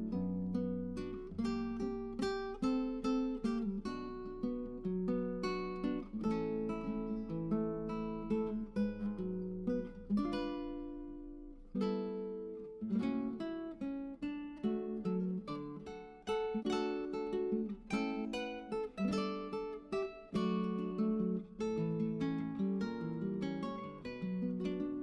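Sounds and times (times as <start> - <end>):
acoustic guitar picking a melody: 0.0 - 25.0.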